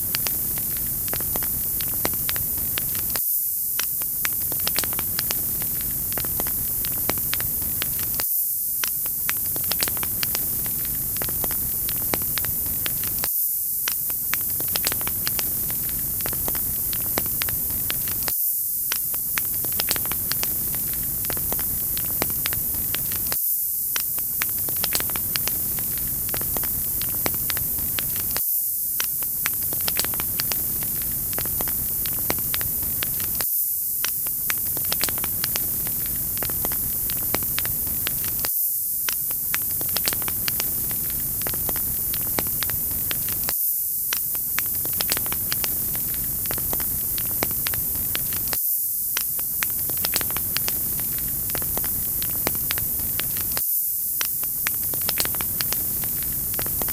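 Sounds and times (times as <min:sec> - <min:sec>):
wood fire crackling and popping: 0:00.0 - 0:28.4, 0:29.0 - 0:56.9
fire hiss: 0:00.0 - 0:56.9.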